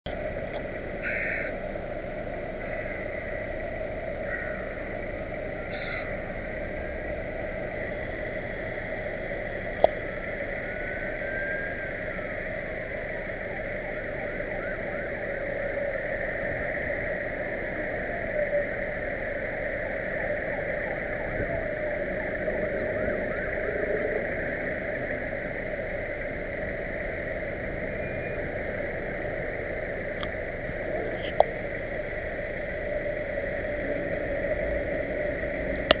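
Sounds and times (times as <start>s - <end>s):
car interior hum and hiss: 0.1s - 36.0s.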